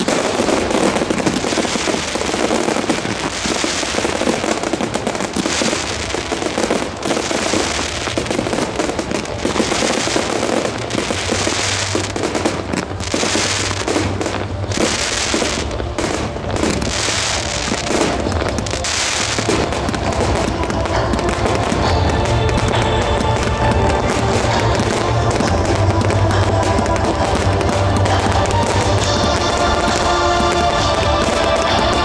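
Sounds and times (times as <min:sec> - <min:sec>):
fireworks bursting and crackling: 0:00.0 - 0:32.0
music: 0:00.0 - 0:32.0.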